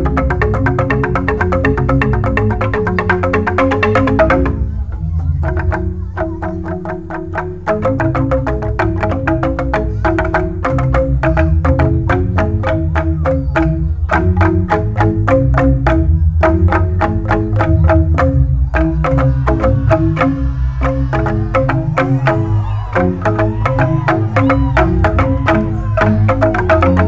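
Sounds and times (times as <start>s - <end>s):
bamboo percussion ensemble: 0.0s - 27.0s
deep bamboo bass notes: 0.0s - 27.0s.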